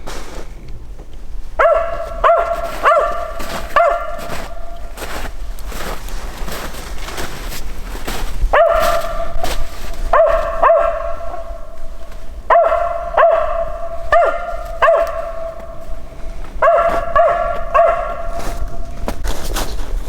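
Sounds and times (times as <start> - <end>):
dog barking: 1.6 - 7.3, 8.5 - 19.0.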